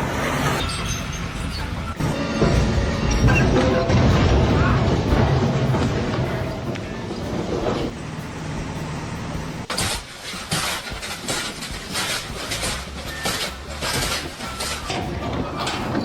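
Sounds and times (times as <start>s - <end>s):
engine humming: 0.0s - 16.0s
loud noisy bursts: 0.0s - 16.0s.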